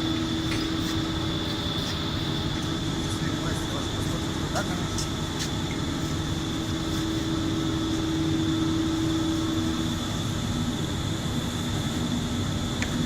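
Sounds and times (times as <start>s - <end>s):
machinery hum with hiss: 0.0s - 13.0s.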